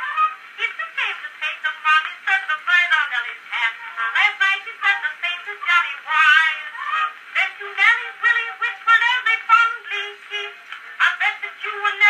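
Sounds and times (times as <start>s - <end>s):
woman singing a comic song: 0.0s - 12.0s.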